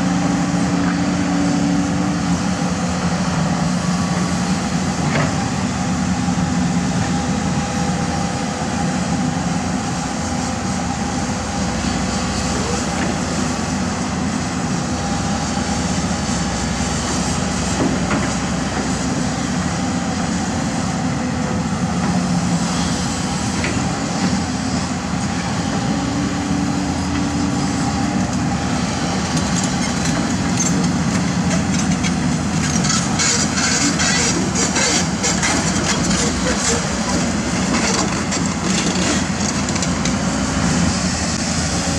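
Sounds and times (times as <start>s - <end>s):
diesel machinery running: 0.0s - 41.9s.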